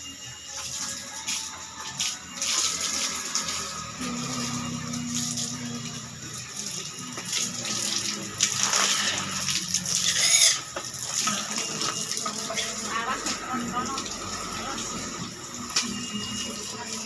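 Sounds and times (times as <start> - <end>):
hose water spraying and splashing: 0.0 - 17.0.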